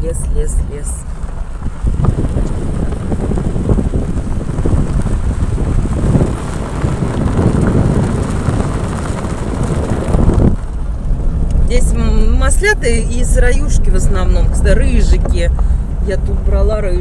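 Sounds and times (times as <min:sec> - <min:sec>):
car road noise rumble: 0:00.0 - 0:17.0
wind on microphone: 0:00.0 - 0:17.0.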